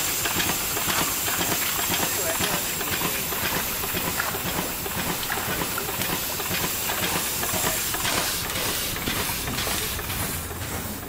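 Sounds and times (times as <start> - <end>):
steam engine and pump running: 0.0 - 11.0
steam hissing: 0.0 - 11.0.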